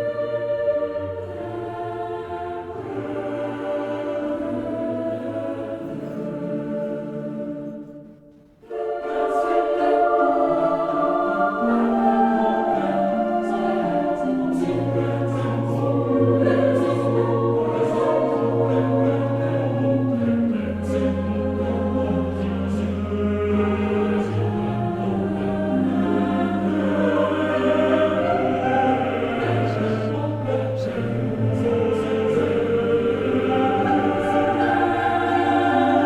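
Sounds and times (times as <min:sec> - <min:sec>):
choir singing held chords: 0:00.0 - 0:36.0.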